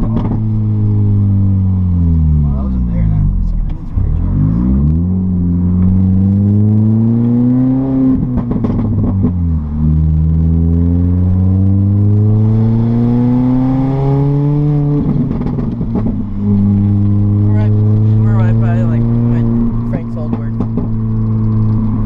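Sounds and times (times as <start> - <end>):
car exhaust revving through gears: 0.0 - 22.0.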